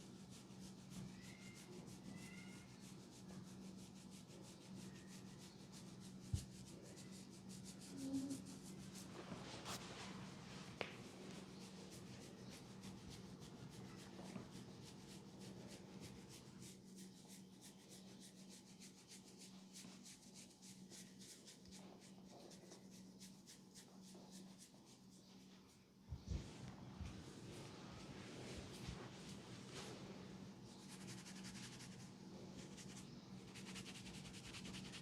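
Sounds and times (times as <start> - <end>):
faint low hum: 0.0 - 35.0
hands rubbing hair and skin: 3.9 - 35.0.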